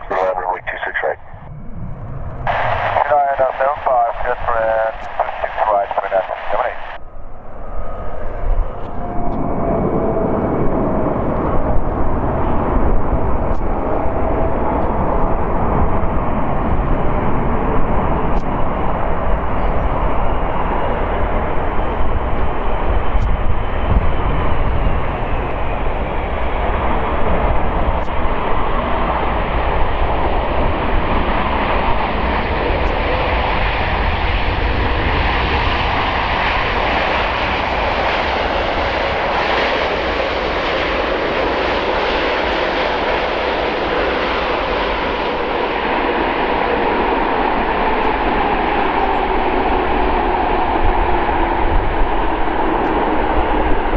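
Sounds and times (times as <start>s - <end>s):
jet engine rush: 0.0s - 53.9s.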